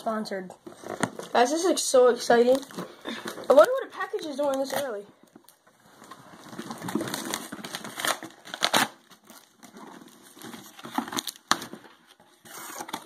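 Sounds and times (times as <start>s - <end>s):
packaging crinkling: 2.3s - 13.0s
packaging ripping: 2.5s - 13.0s.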